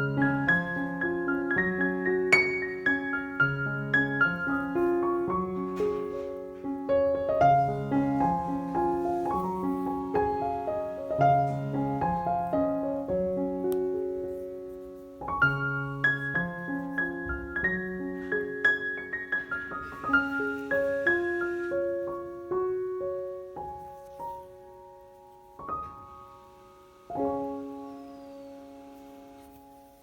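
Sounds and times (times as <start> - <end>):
gentle piano melody: 0.0 - 30.0.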